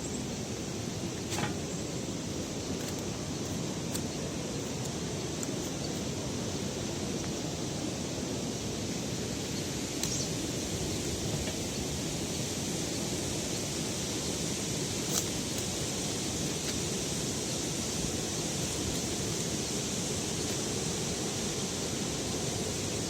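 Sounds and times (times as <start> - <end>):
steady outdoor rushing noise: 0.0 - 23.0.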